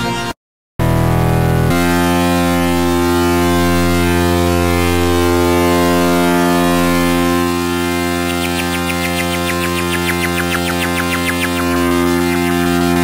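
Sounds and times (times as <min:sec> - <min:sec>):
rapid synthesizer pulsing: 0:00.0 - 0:13.0
synthesizer sustained low note: 0:00.0 - 0:13.0.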